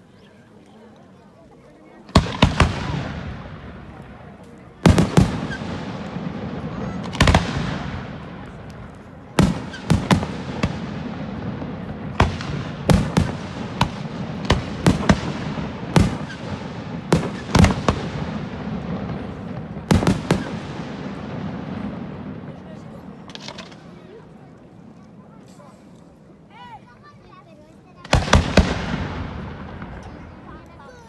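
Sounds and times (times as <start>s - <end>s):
background noise: 0.0s - 31.0s
fireworks bursting with bangs: 2.1s - 24.9s, 28.0s - 31.0s.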